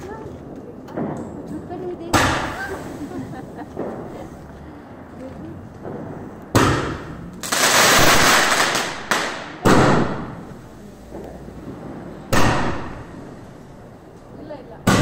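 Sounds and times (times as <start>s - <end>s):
fireworks bangs: 0.0s - 15.0s
fireworks hissing and crackling: 0.0s - 15.0s.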